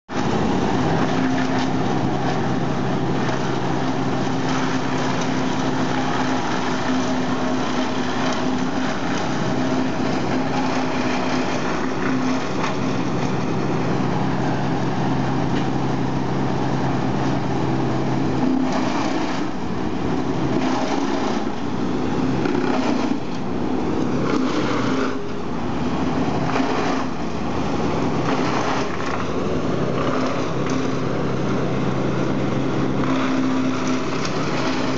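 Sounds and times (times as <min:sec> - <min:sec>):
wood chipper engine running: 0:00.1 - 0:34.9.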